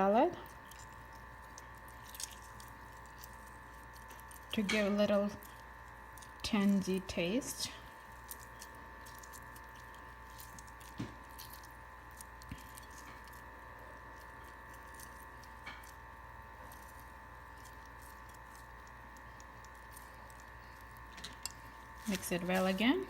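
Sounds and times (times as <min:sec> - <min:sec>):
electrical hum: 0:00.0 - 0:23.0
salad squishing in a bowl: 0:00.4 - 0:23.0.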